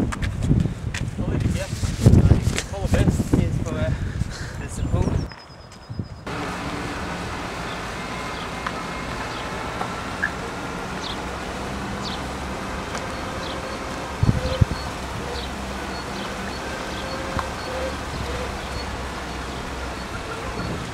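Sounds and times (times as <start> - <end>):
low road hum with buzzing tone: 0.0 - 20.9.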